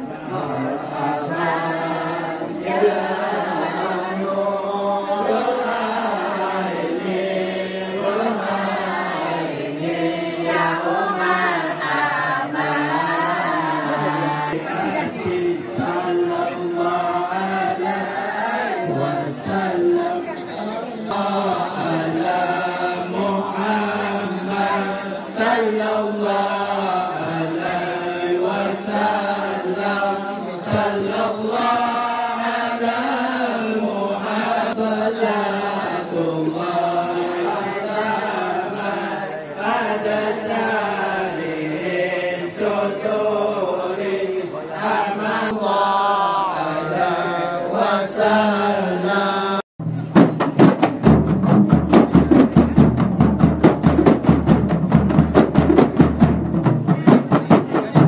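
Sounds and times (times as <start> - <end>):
group chanting in unison: 0.0 - 49.7.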